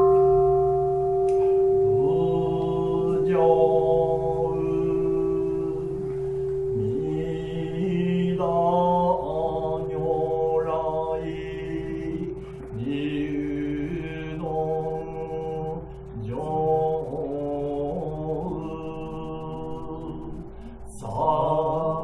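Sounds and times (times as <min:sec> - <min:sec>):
steady drone tone: 0:00.0 - 0:22.0
voice chanting long notes: 0:00.0 - 0:22.0.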